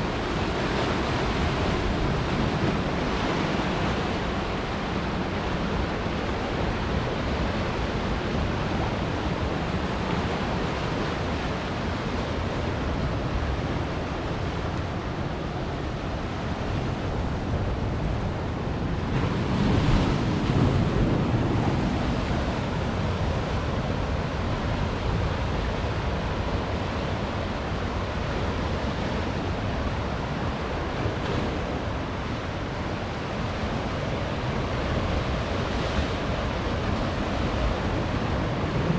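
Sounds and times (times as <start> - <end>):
ocean waves breaking on rocks: 0.0 - 38.9.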